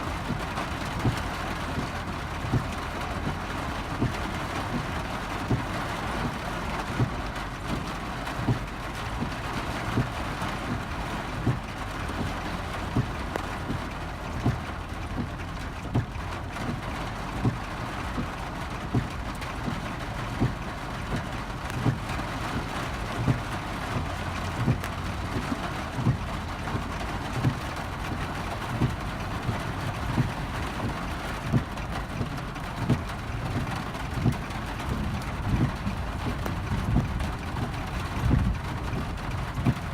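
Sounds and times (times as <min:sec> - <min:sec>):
heavy rain on car roof: 0:00.0 - 0:39.9
windshield wipers thumping: 0:00.0 - 0:39.9.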